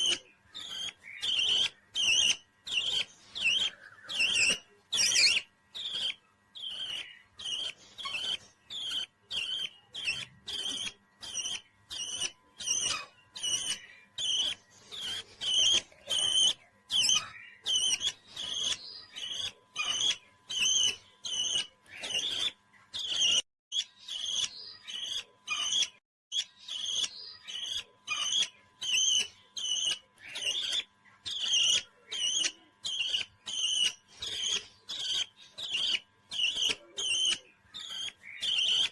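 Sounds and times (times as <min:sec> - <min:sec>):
parrot chirping: 0:00.0 - 0:38.9.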